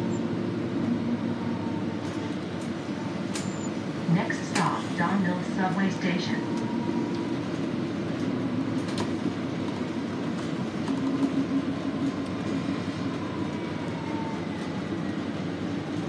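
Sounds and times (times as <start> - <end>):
bus drivetrain and road rumble: 0.0 - 16.0.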